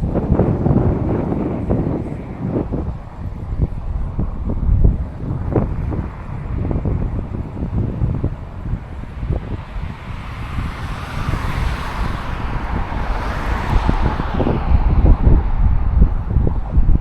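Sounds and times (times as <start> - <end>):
passing vehicle tyre noise: 0.0 - 17.0
wind buffeting microphone: 0.0 - 17.0.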